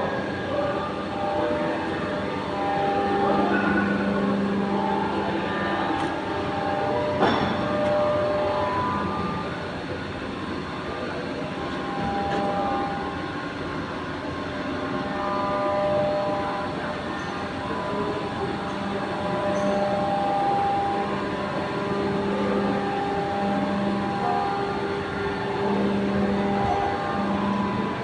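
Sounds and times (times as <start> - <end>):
machine whines: 0.0 - 28.0
machinery droning: 0.0 - 28.0.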